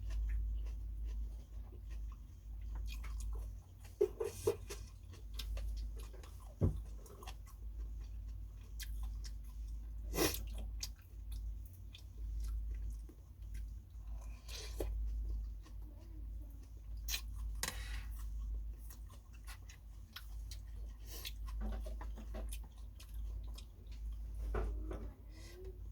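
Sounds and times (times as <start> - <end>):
low steady hum: 0.0 - 25.9
person chewing and eating: 0.0 - 25.9.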